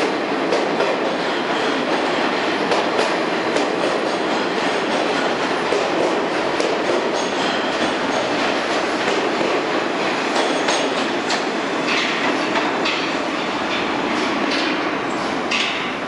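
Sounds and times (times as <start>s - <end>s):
subway train wheels clattering: 0.0s - 16.0s.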